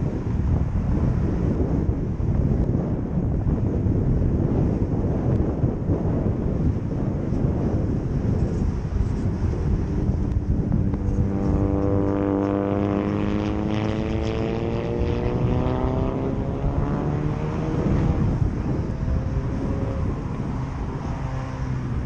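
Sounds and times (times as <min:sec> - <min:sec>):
propeller aircraft engine drone: 0:00.0 - 0:22.0
wind on microphone: 0:00.0 - 0:22.0.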